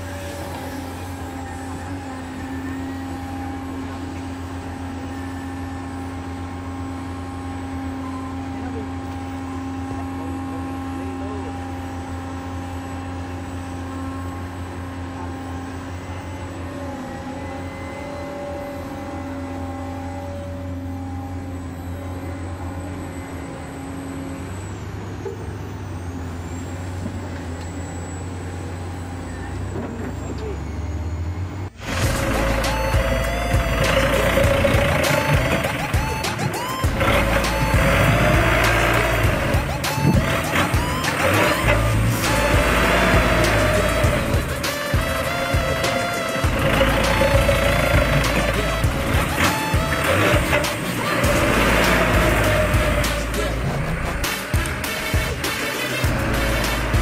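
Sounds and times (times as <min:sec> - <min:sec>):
model excavator motor hum and whine: 0:00.0 - 0:57.0.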